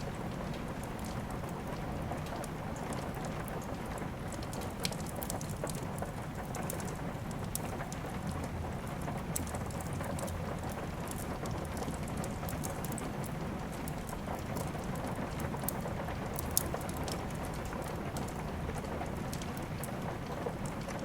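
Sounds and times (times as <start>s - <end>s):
steady rain: 0.0s - 21.0s
wood fire crackling: 0.0s - 21.0s.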